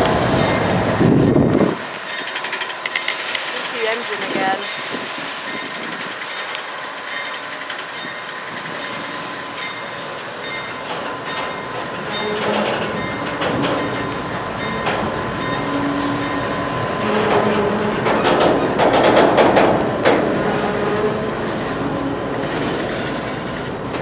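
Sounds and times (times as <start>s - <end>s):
freight train rumbling on rails: 0.0s - 24.0s
locomotive engine: 0.0s - 24.0s
train cars clanking: 0.0s - 24.0s.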